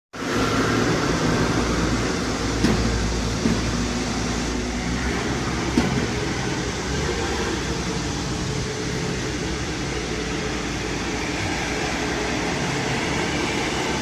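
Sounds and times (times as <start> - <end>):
truck engine low hum: 0.2 - 14.0.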